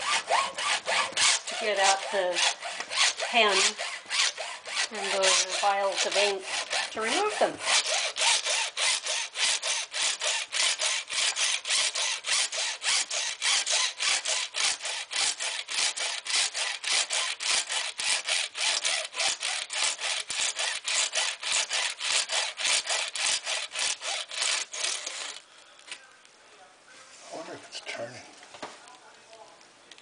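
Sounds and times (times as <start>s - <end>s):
hacksaw cutting hard plastic: 0.0s - 25.4s.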